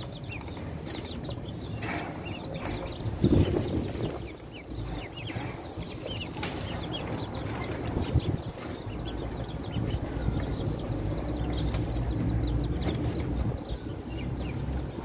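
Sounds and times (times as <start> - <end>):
chicks and ducklings peeping: 0.0 - 15.0.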